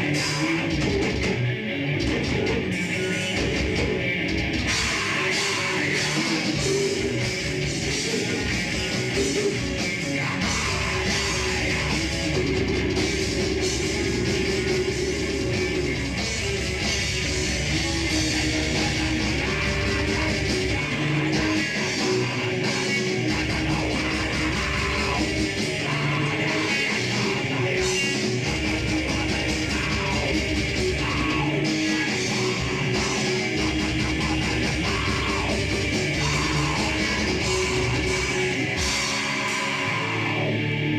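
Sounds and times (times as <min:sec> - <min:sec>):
drum kit: 0:00.0 - 0:40.9
electric guitars: 0:00.0 - 0:40.9
rock band playing live: 0:00.0 - 0:40.9.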